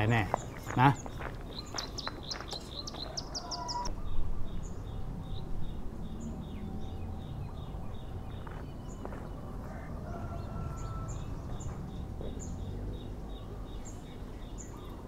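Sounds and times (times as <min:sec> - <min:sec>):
low outdoor background noise: 0:00.0 - 0:15.0
small birds chirping: 0:00.0 - 0:15.0.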